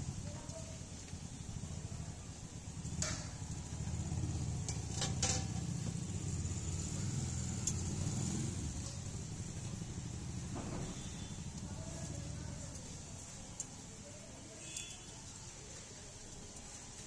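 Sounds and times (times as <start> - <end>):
frying in oil: 0.0 - 17.0.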